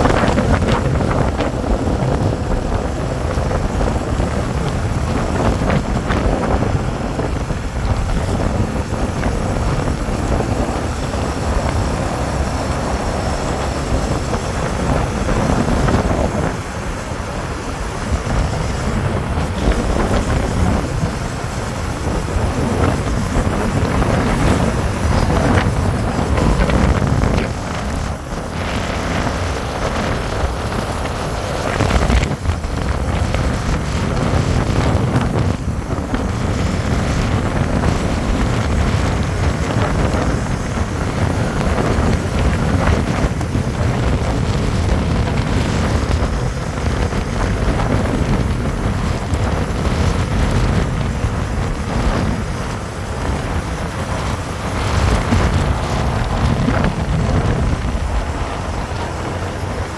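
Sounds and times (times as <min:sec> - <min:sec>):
motorcycle engine: 0:00.0 - 0:59.9
wind rushing over microphone: 0:00.0 - 0:59.9.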